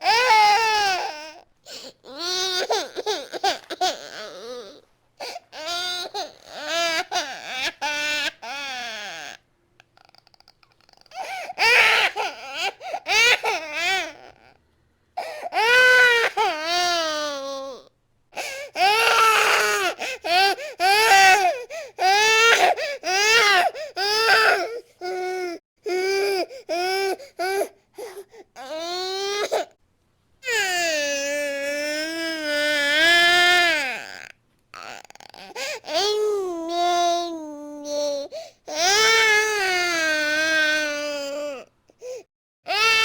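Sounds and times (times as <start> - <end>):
infant crying: 0.0 - 9.4, 10.9 - 14.6, 15.2 - 29.7, 30.4 - 43.0.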